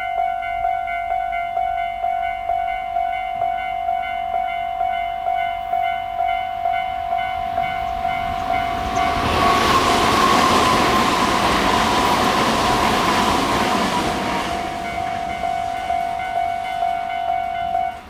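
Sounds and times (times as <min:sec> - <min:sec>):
level-crossing warning bell: 0:00.0 - 0:18.0
train passing over rails: 0:00.0 - 0:18.0.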